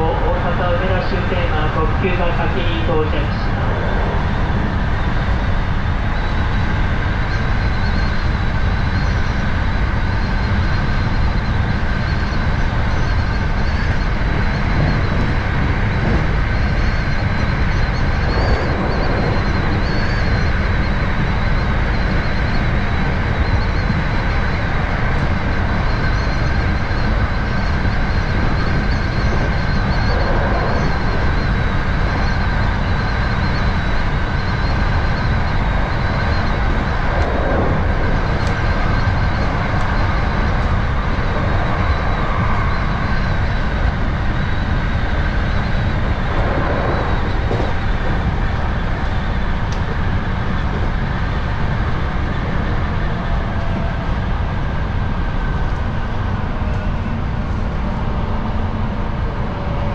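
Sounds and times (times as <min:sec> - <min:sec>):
faint high whine: 0:00.0 - 0:59.9
train wheels rumbling on rail: 0:00.0 - 0:59.9.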